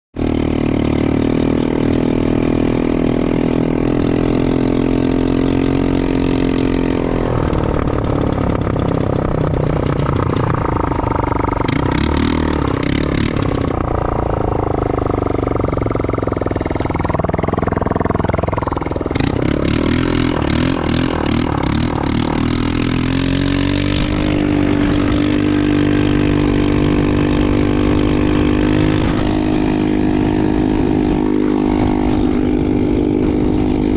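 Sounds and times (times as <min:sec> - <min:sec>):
atv engine running: 0:00.2 - 0:33.9.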